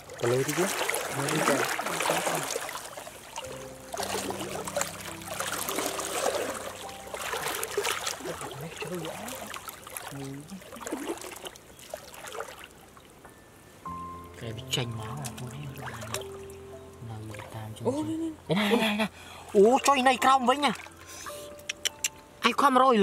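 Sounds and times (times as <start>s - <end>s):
stream water splashing: 0.0s - 13.2s, 14.4s - 18.3s, 19.2s - 22.1s.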